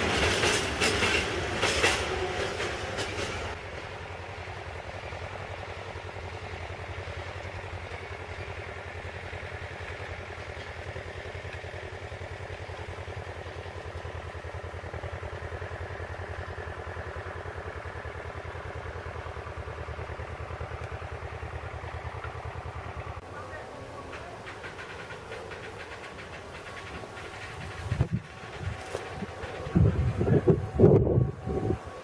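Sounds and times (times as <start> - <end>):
diesel locomotive engine throbbing: 0.0 - 32.0.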